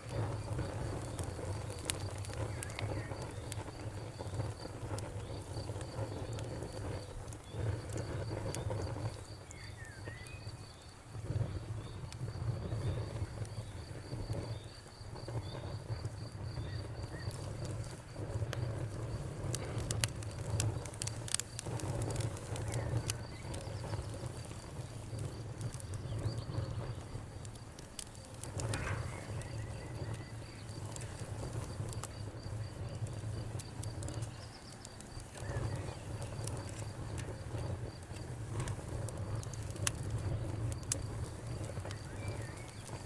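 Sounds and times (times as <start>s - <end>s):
fire crackling and popping: 0.0s - 43.0s
crickets chirping: 0.1s - 43.0s.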